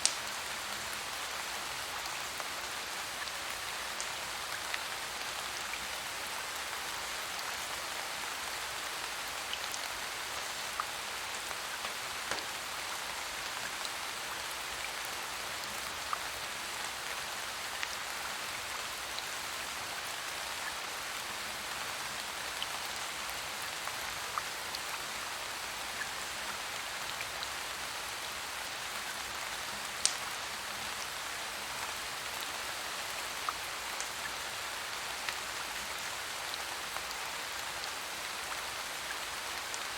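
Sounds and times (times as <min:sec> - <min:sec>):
sharp ticks of raindrops: 0:00.0 - 0:39.9.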